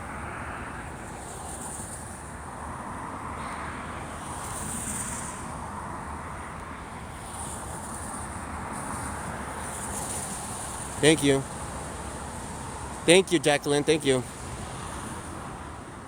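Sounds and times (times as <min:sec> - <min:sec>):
traffic on wet street: 0:00.0 - 0:16.0.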